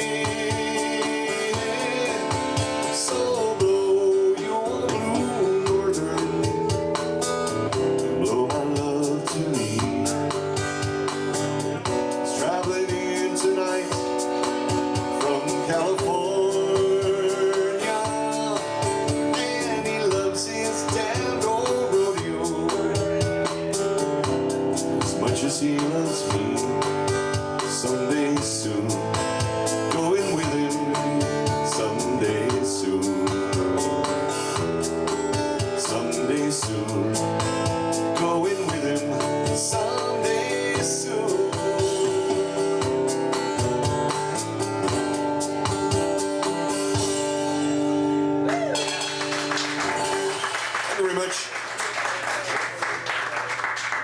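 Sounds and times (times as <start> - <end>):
man singing: 0.0 - 45.3
strummed acoustic guitar: 0.0 - 50.8.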